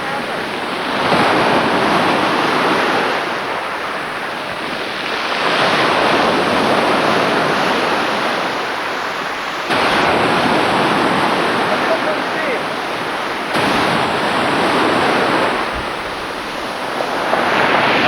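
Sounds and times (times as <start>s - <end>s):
sea waves breaking on shore: 0.0s - 18.0s.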